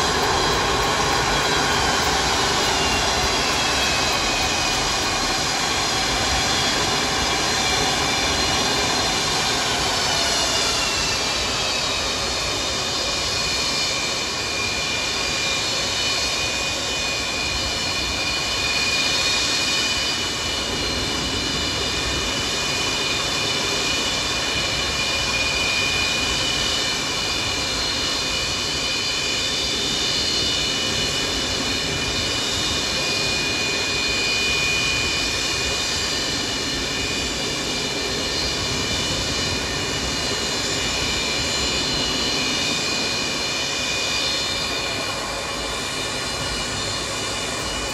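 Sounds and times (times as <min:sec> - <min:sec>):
jet turbofans whining: 0:00.0 - 0:47.9.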